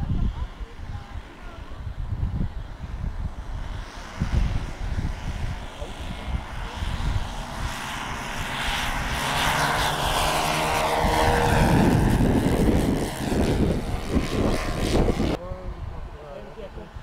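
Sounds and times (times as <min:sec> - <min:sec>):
model plane engines droning: 0:00.0 - 0:17.0.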